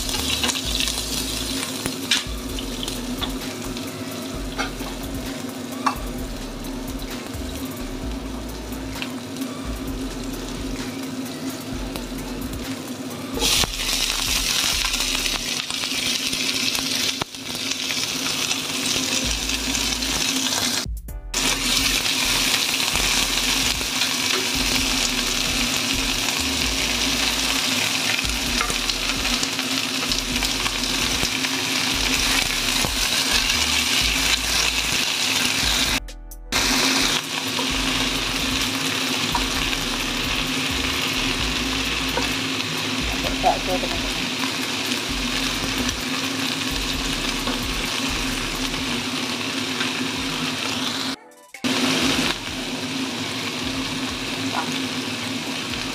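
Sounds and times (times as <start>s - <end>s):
vegetables sizzling in a pan: 0.0s - 36.0s, 36.6s - 55.9s.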